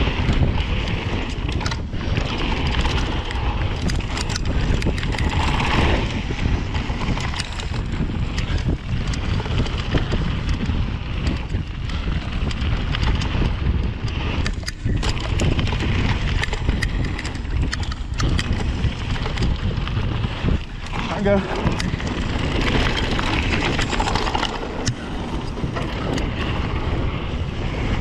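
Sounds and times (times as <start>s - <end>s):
bike clicks and rattles: 0.0s - 28.0s
bike tyre noise: 0.0s - 28.0s
wind rushing over microphone: 0.0s - 28.0s.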